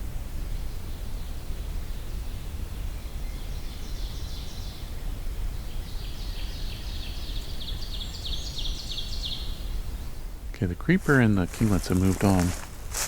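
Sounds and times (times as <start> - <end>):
songbirds calling: 0.0 - 13.0.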